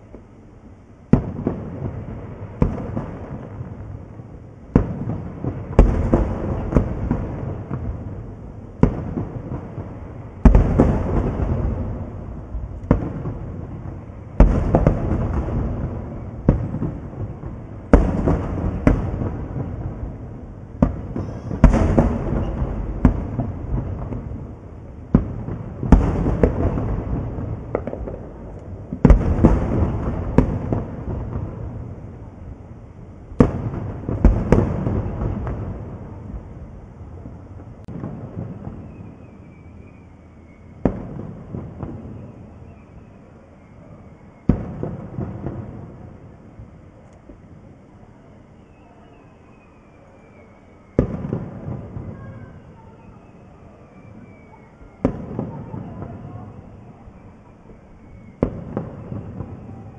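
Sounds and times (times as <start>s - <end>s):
fireworks booming: 0.0s - 47.7s, 48.6s - 59.9s
fireworks crackling: 0.0s - 59.9s.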